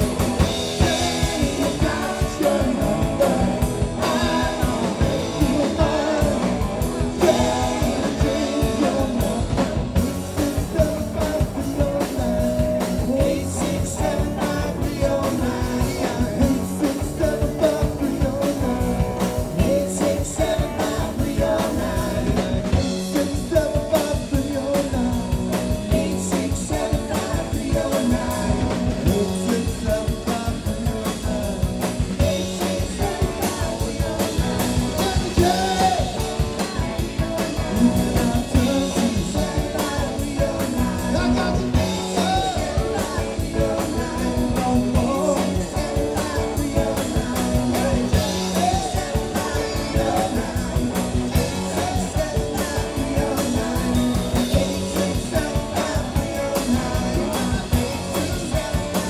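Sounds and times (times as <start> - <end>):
bass guitar: 0.0 - 59.0
drum kit beat: 0.0 - 59.0
electric guitar: 0.0 - 59.0
keyboard: 0.0 - 59.0.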